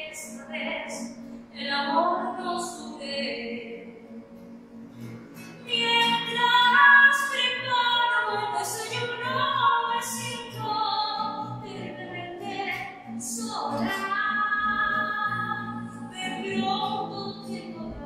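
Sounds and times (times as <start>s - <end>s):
woman singing classically: 0.0s - 4.0s, 5.7s - 18.0s
classical guitar: 0.0s - 18.0s.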